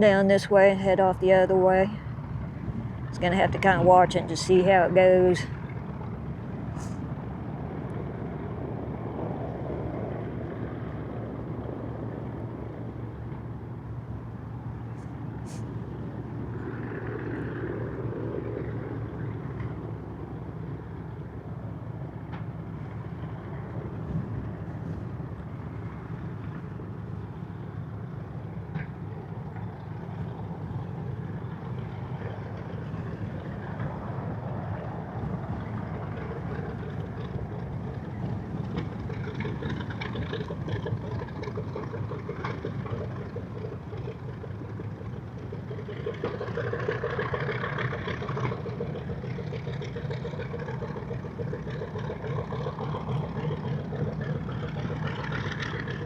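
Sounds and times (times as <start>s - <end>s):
distant propeller plane engines droning: 0.0s - 56.0s.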